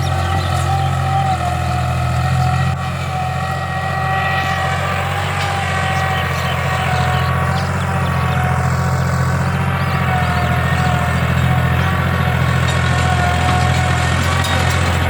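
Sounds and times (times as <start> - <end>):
thin whine: 0.0 - 15.0
tractor diesel engine running: 0.0 - 15.0.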